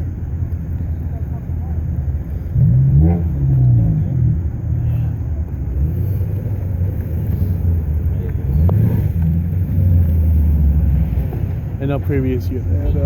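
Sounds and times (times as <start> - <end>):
car engine revving: 0.7 - 13.0.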